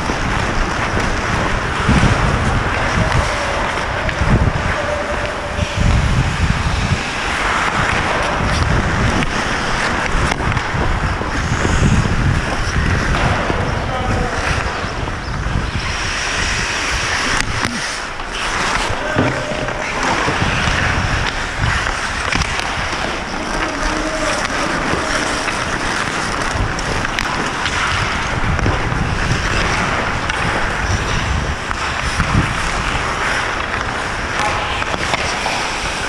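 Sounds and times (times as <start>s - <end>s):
skate blades scraping ice: 0.0s - 36.0s
wind on microphone: 0.0s - 36.0s.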